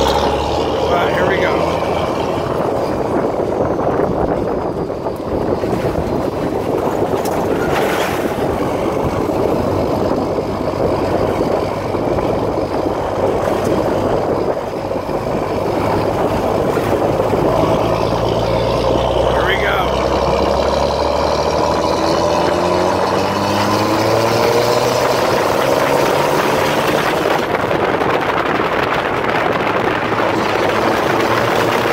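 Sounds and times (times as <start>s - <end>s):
diesel truck engine running: 0.0s - 31.9s
road noise: 0.0s - 31.9s
wind: 0.0s - 31.9s.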